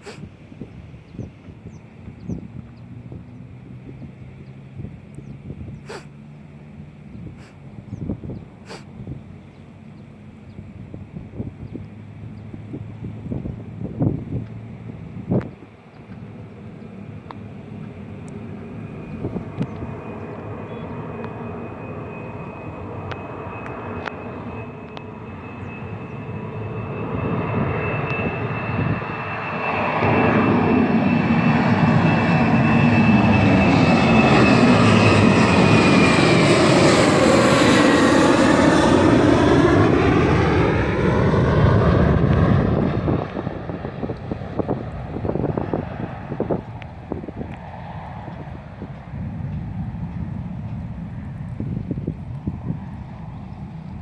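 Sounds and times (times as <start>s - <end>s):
jet engines at takeoff thrust: 0.0s - 54.0s.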